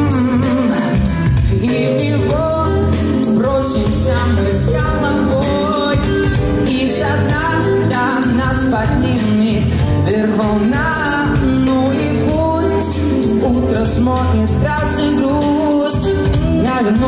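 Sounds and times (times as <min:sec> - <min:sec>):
backing music with bass and beat: 0:00.0 - 0:17.0
man singing pop song: 0:00.0 - 0:17.0.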